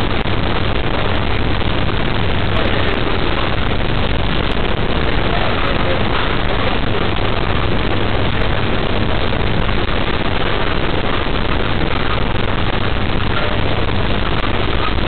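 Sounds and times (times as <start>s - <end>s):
steady loud hiss: 0.0s - 15.0s.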